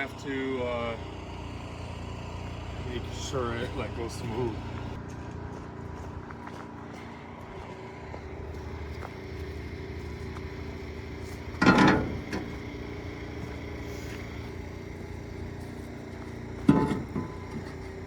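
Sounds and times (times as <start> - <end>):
sports car engine running: 0.0 - 18.0.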